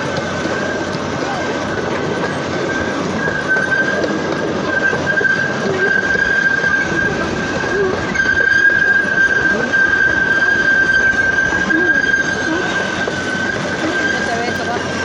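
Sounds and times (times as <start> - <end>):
high wheel squeal: 0.0 - 15.0
train rumble and rattle: 0.0 - 15.0.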